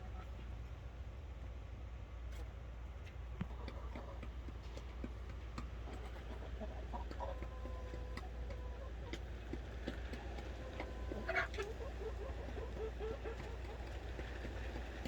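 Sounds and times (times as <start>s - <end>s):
chickens clucking: 2.3s - 15.0s.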